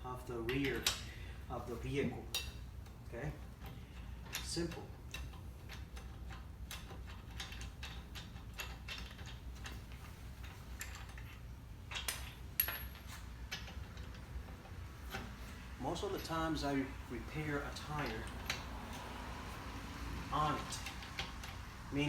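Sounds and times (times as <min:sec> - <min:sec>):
lug wrench clicking on nuts: 0:03.6 - 0:15.4, 0:16.0 - 0:22.0.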